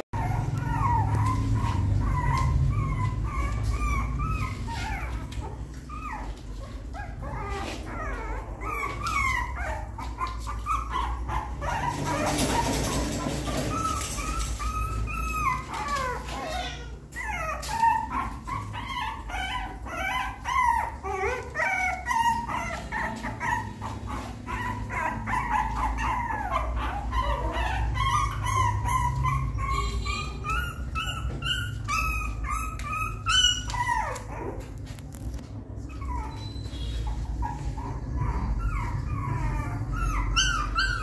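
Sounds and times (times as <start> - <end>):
puppy crying and whimpering: 0.0 - 41.0.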